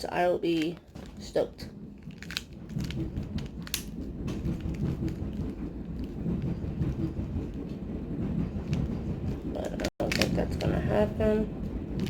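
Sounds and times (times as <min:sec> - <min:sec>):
low rumble: 0:00.1 - 0:12.0.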